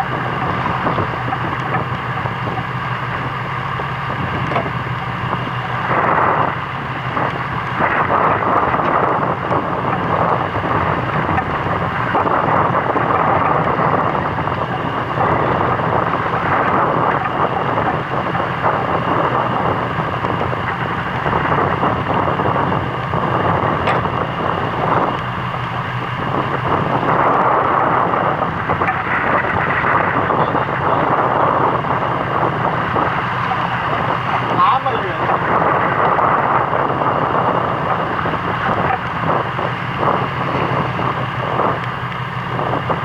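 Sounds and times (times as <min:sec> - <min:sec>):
boat engine running: 0:00.0 - 0:43.0
sea water rushing around hull: 0:00.0 - 0:43.0
wind on microphone: 0:00.0 - 0:43.0.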